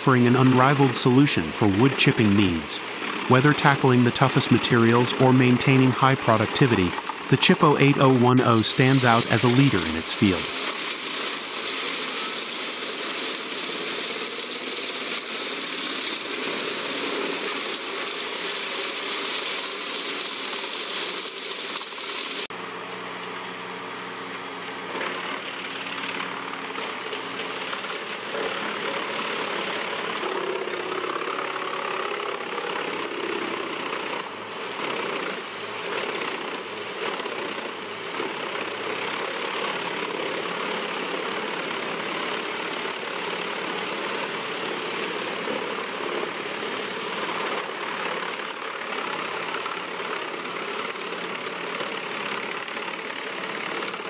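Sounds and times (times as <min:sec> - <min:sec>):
wood chipper diesel engine droning: 0:00.0 - 0:54.0.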